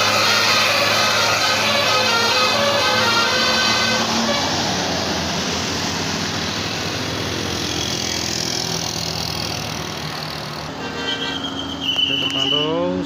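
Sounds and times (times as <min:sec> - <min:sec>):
bus engine running: 0:00.0 - 0:13.0
road noise: 0:00.0 - 0:13.0.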